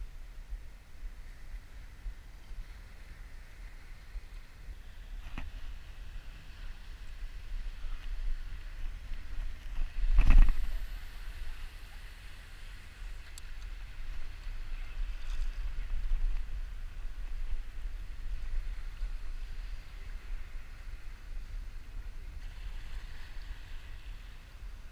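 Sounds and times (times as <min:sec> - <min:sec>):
light surf: 0:00.0 - 0:24.9
wind buffeting microphone: 0:00.0 - 0:24.9.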